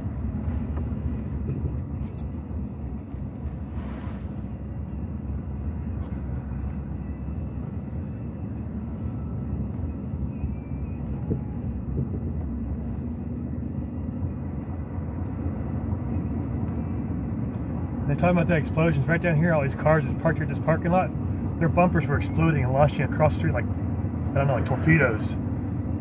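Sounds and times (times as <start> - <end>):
vehicle engine and tyres rumbling: 0.0 - 26.0.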